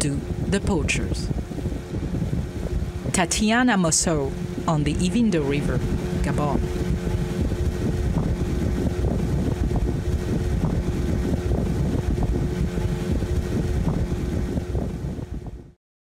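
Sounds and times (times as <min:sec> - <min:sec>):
water rushing along hull: 0:00.0 - 0:15.6
boat engine running: 0:00.0 - 0:15.8.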